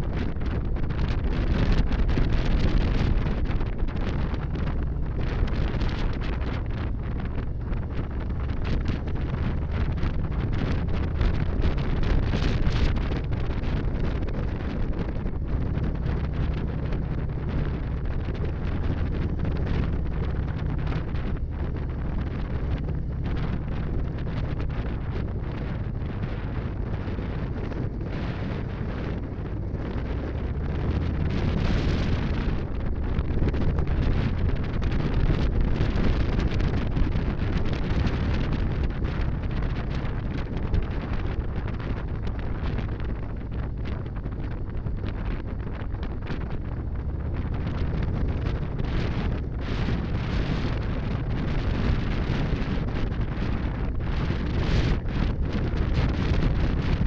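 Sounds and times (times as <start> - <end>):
motorcycle engine droning: 0.0 - 57.0
wind buffeting microphone: 0.0 - 57.0.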